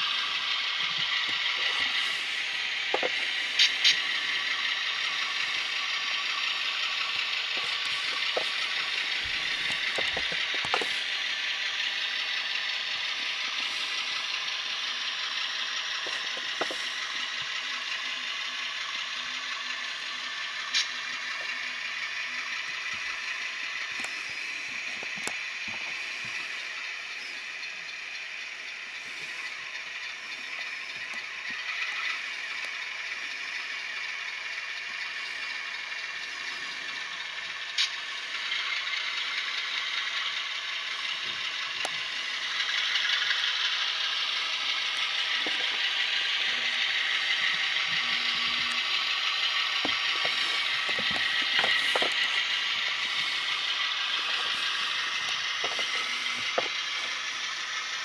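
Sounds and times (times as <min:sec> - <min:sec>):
tinny diesel engine sound: 0:00.0 - 0:58.0.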